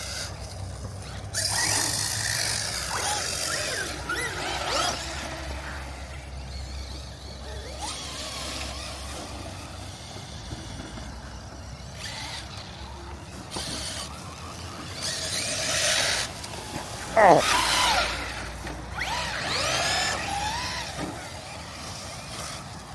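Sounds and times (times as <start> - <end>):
rc truck rushing noise: 0.0 - 22.9.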